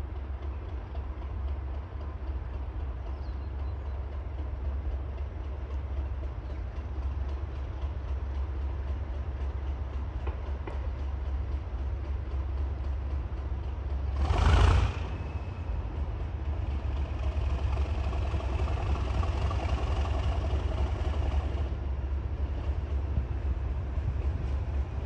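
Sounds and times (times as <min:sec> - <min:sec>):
diesel locomotive engine rumbling: 0:00.0 - 0:25.0.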